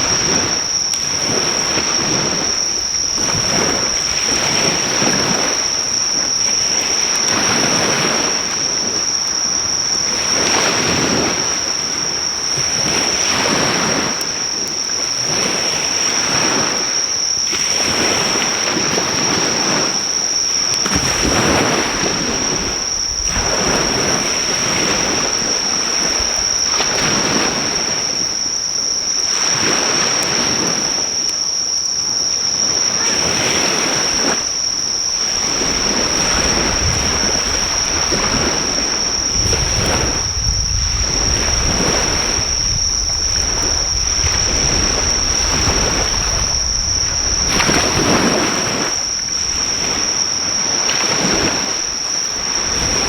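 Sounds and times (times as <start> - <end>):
high-pitched insect song: 0.0 - 53.0
waves breaking on shore: 0.0 - 53.0.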